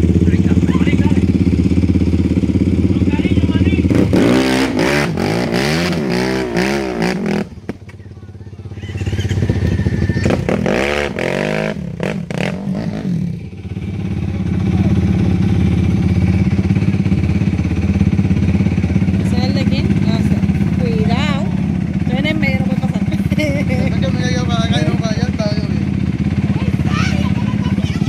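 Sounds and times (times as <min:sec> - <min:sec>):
atv engine revving: 0:00.0 - 0:28.0.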